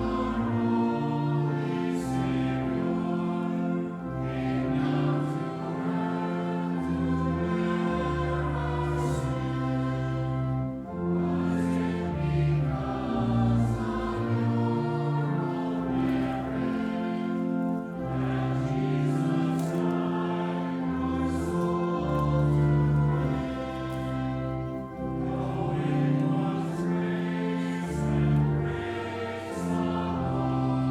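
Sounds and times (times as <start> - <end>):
congregation singing a hymn: 0.0 - 30.9
instrumental accompaniment: 0.0 - 30.9.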